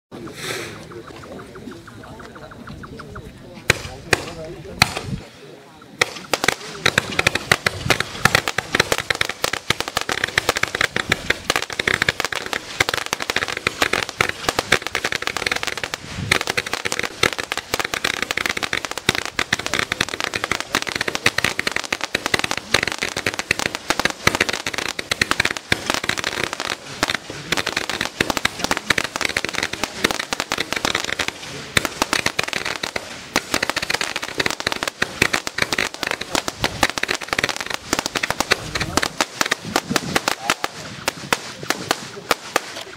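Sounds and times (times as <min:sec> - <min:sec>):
fireworks popping and crackling: 0:00.2 - 0:42.9.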